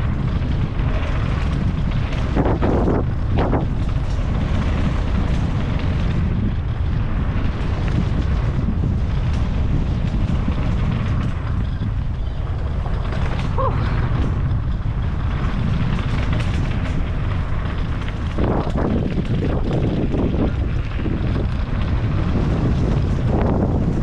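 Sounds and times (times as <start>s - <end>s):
vehicle rumbling in motion: 0.0s - 24.0s
wind buffeting microphone: 0.0s - 24.0s.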